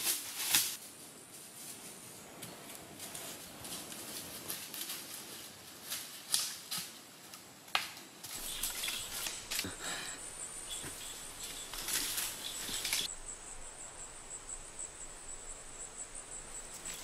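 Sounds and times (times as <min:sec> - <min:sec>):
leaves and undergrowth rustling: 0:00.0 - 0:17.0.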